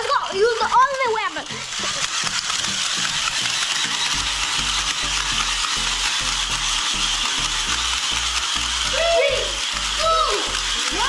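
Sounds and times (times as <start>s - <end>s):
toy mechanisms clicking and whirring: 0.0s - 11.0s.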